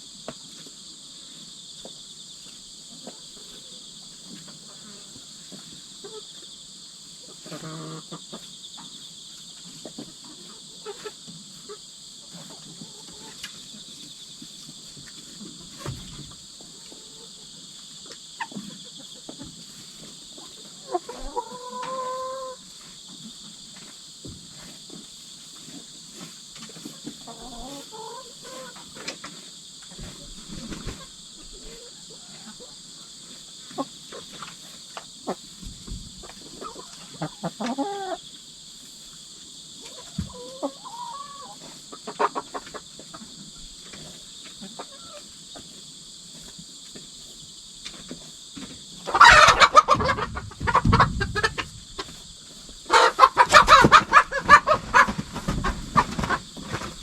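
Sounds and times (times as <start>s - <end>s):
crickets chirping: 0.0s - 57.0s
hens clucking: 1.8s - 6.5s, 7.2s - 57.0s.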